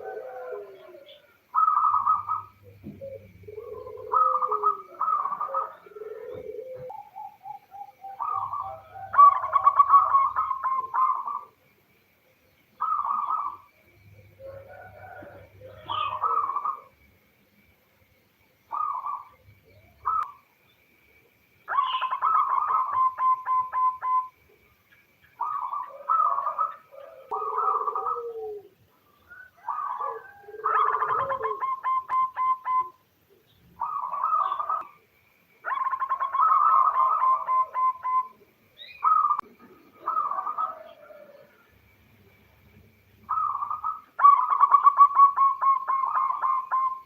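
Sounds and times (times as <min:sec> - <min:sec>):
dove cooing: 0:00.0 - 0:11.7, 0:12.8 - 0:17.1, 0:18.7 - 0:20.4, 0:21.7 - 0:24.5, 0:25.4 - 0:47.0.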